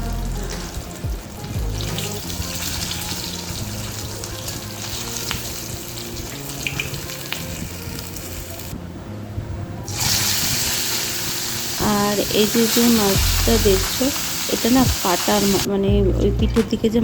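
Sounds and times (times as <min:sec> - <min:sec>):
fish sizzling in hot oil: 0:00.0 - 0:08.7, 0:09.9 - 0:15.7
soft background music: 0:00.0 - 0:17.0.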